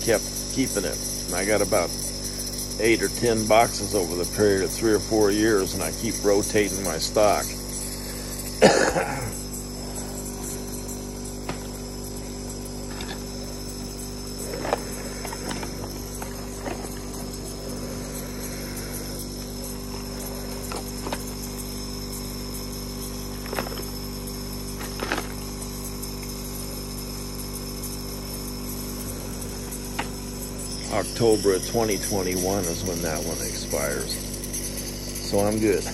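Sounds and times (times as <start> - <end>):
air compressor humming: 0.0 - 35.9.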